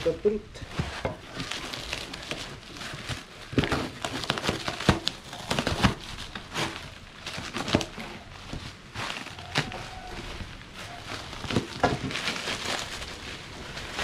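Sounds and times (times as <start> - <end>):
cardboard rustling: 0.0 - 14.0
plastic wrapping crinkling: 0.0 - 14.0.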